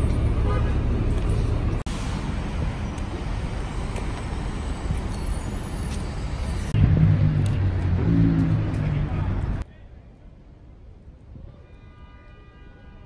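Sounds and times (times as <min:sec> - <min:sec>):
city traffic: 0:00.0 - 0:13.0.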